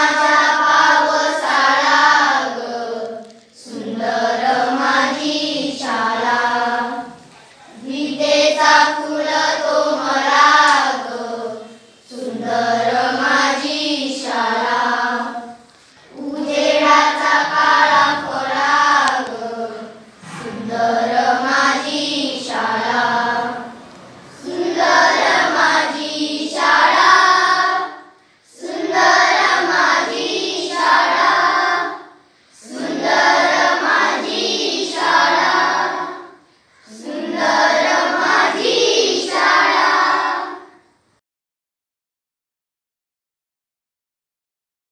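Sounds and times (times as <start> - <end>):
children singing a prayer: 0.0 - 41.0.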